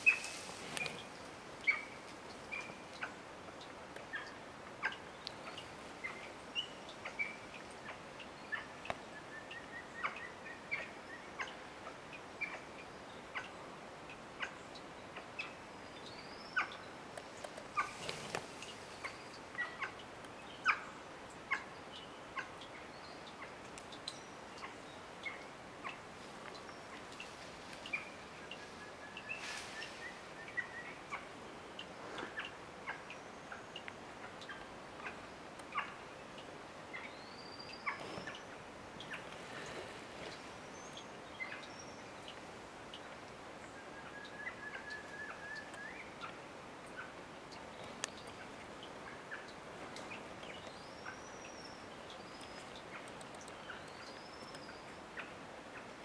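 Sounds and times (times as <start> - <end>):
bird chirps and ticks: 0.0 - 56.0
faint forest hiss: 0.0 - 56.0.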